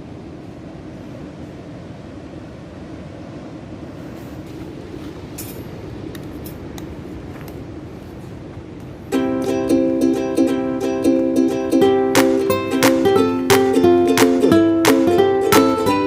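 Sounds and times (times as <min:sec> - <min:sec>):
surf rumbling: 0:00.0 - 0:16.0
wind: 0:00.0 - 0:16.0.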